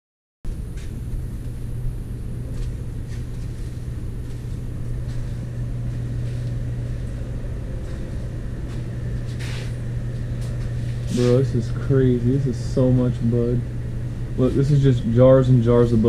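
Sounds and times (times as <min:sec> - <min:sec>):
low machine hum: 0:00.5 - 0:16.0.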